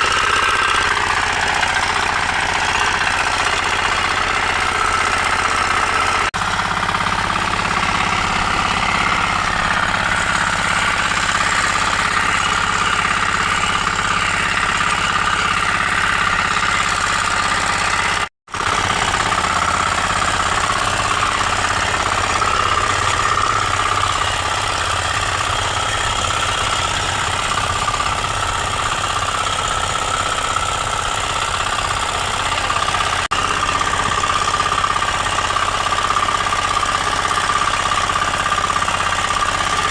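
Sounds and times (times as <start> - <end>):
power weeder engine running: 0.0 - 39.9.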